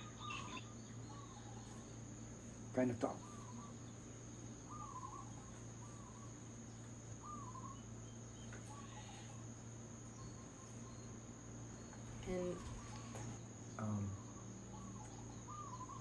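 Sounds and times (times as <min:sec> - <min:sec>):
cricket trill: 0:00.0 - 0:16.0
low steady hum: 0:00.0 - 0:16.0.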